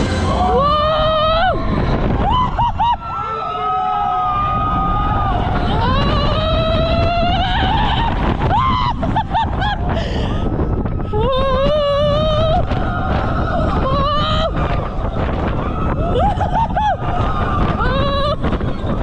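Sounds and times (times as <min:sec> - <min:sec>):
riders screaming and whooping: 0:00.0 - 0:19.0
roller coaster running on track: 0:00.0 - 0:19.0
wind rushing over microphone: 0:00.0 - 0:19.0.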